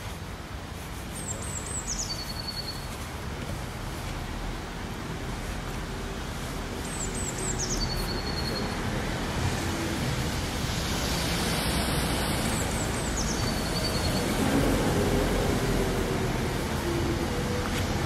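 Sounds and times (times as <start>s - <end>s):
city road traffic: 0.0s - 18.0s.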